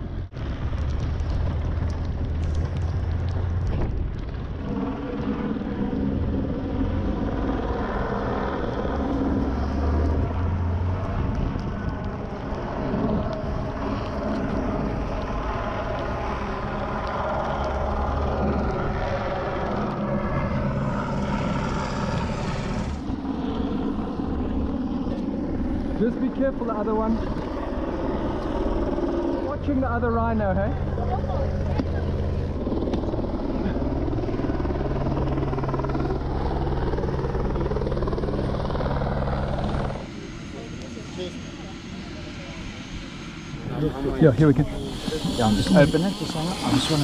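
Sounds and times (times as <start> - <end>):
vehicle engine on dirt track: 0.0 - 47.0.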